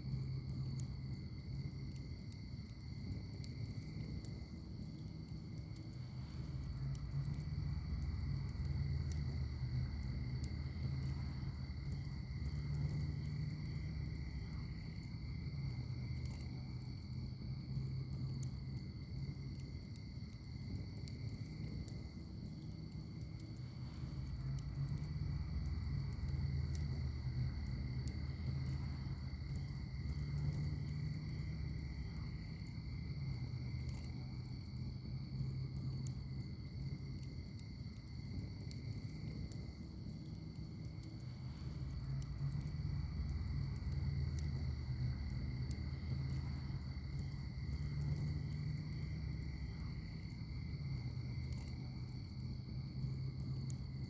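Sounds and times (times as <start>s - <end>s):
fire crackles and pops: 0.0s - 54.0s
rumble of flames: 0.0s - 54.0s.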